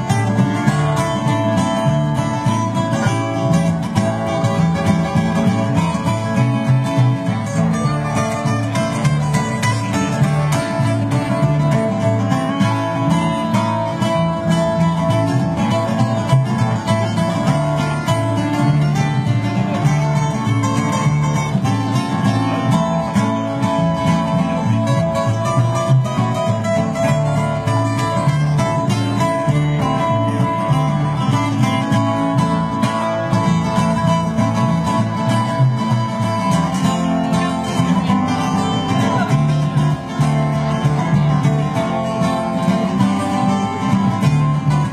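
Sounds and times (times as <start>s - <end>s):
acoustic guitars picking: 0.0s - 44.9s
upright bass walking line: 0.0s - 44.9s.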